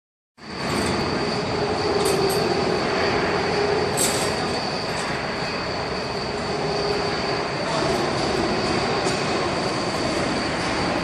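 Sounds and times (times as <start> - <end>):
industrial machinery running: 0.4 - 11.0.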